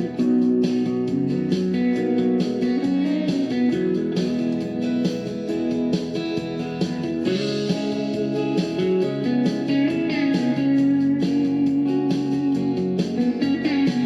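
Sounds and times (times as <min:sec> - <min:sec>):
slow guitar melody: 0:00.0 - 0:14.0.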